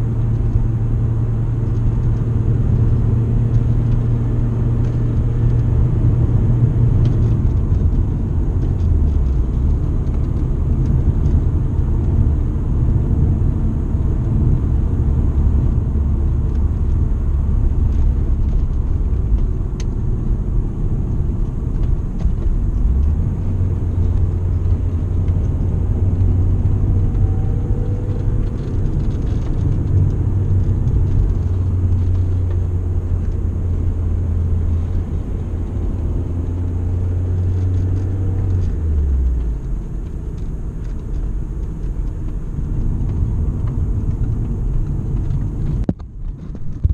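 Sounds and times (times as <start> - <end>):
car engine and road noise drone: 0.0 - 46.9.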